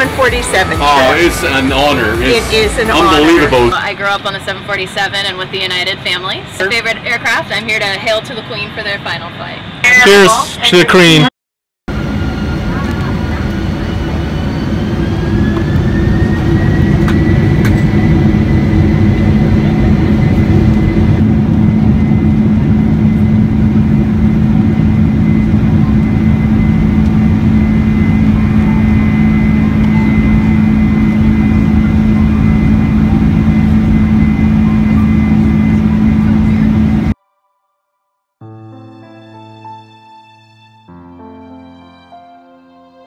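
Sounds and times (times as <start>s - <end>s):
jet engines roaring in cabin: 0.0s - 11.3s, 11.9s - 37.2s.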